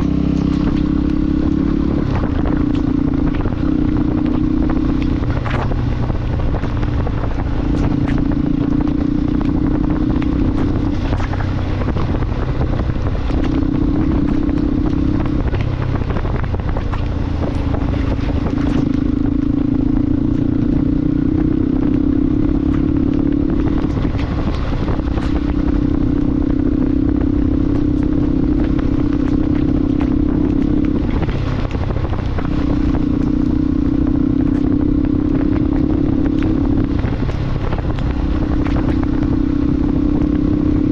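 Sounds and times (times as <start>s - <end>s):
constant low rumble: 0.0s - 40.9s
motorcycle engine hum: 0.0s - 40.9s.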